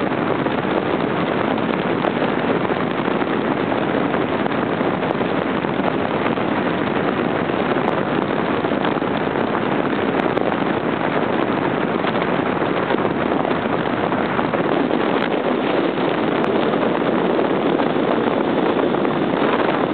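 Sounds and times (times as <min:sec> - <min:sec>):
wind and road noise: 0:00.0 - 0:19.9.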